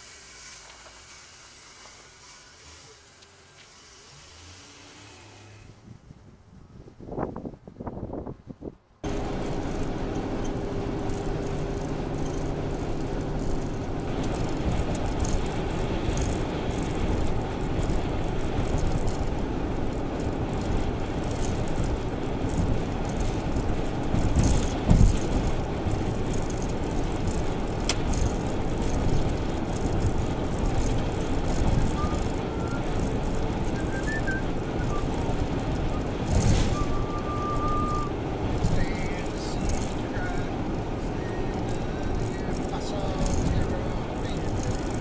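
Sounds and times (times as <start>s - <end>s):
van engine and tyres rumbling: 0.0s - 45.0s.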